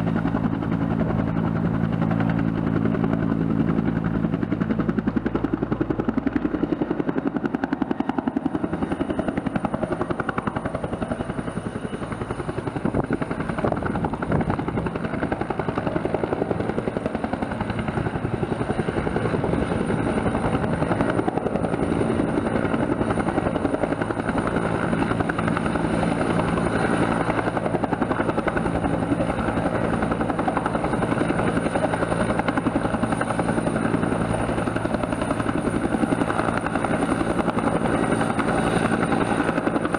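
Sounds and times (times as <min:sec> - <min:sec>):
helicopter engine whine: 0:00.0 - 0:39.9
helicopter rotor chopping: 0:00.0 - 0:39.9.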